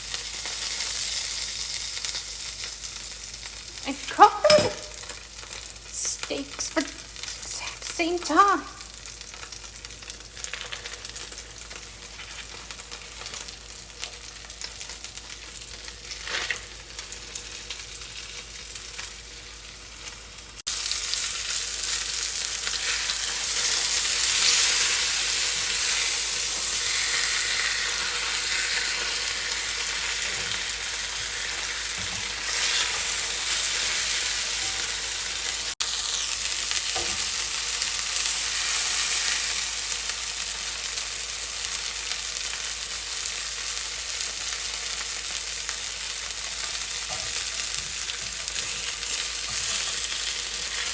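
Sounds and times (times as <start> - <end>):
steaks sizzling in hot oil: 0.0 - 50.9.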